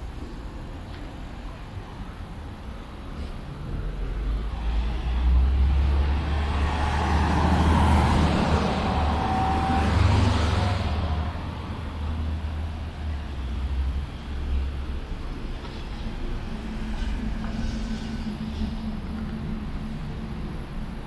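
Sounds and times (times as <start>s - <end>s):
tram passing with deep rumble: 0.0s - 21.0s.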